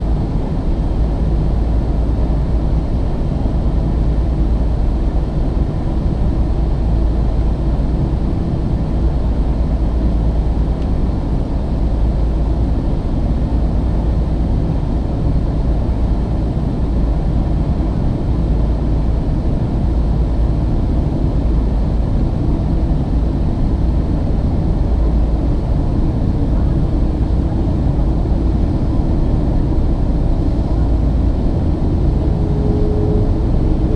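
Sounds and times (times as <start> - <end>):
airplane engines roaring: 0.0 - 33.9.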